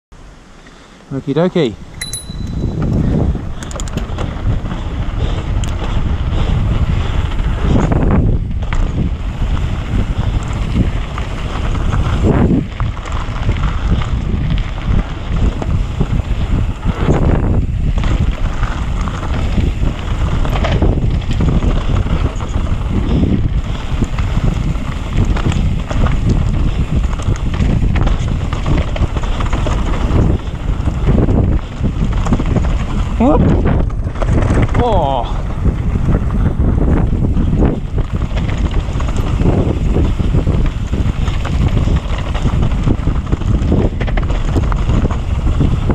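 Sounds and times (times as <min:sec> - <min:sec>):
bike tyres and frame rattling: 0:01.2 - 0:45.9
wind buffeting microphone: 0:01.3 - 0:45.9.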